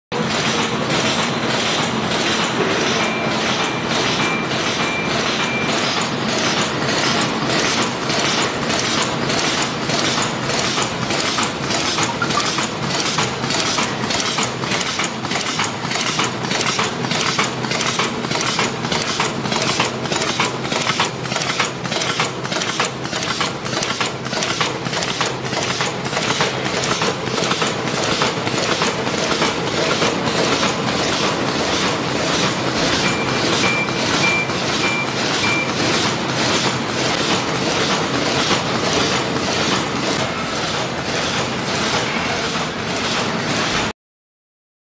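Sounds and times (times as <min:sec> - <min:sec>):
bag-making machine clattering: 0:00.1 - 0:43.9
machine clacks: 0:00.1 - 0:43.9.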